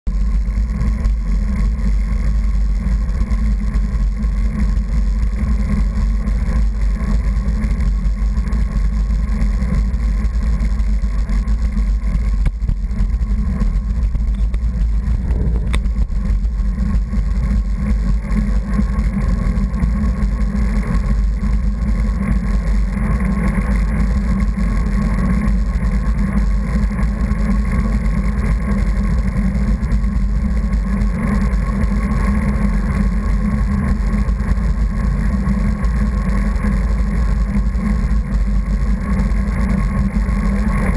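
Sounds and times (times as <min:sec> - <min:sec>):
wind and road noise rumble: 0:00.1 - 0:40.9.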